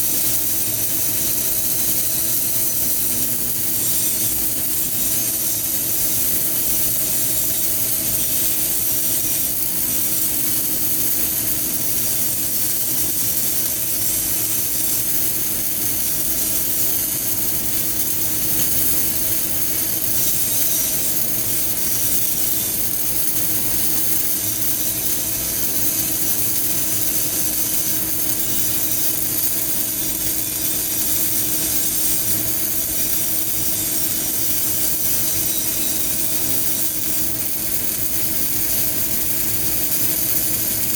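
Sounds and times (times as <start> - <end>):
steady hum: 0.0 - 40.9
welding arc crackling and hissing: 0.0 - 40.9.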